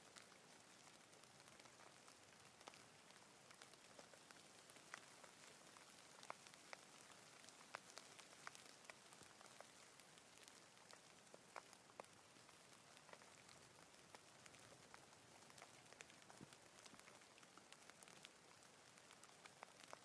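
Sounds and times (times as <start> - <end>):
faint rain hiss: 0.0 - 20.0
raindrops ticking: 0.0 - 20.0.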